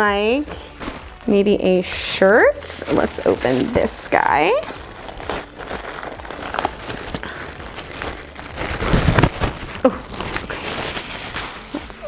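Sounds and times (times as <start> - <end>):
plastic bag crinkling: 0.5 - 12.0.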